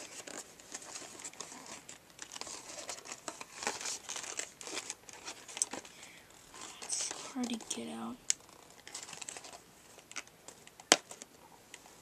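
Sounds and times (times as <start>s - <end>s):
blister pack crinkling: 0.0s - 12.0s.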